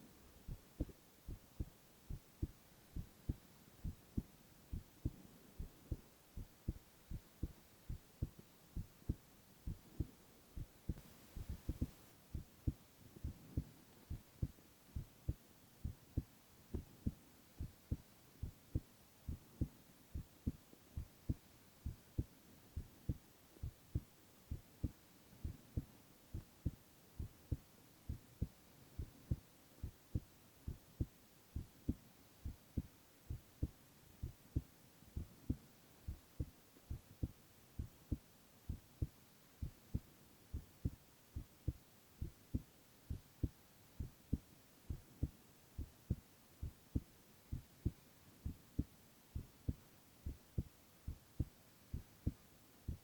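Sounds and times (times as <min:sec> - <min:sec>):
heartbeat thumps: 0:00.5 - 0:53.0.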